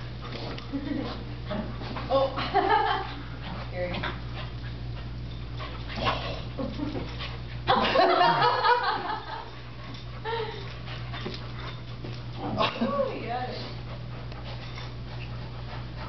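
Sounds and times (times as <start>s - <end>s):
dogs playing noise: 0.0s - 16.0s.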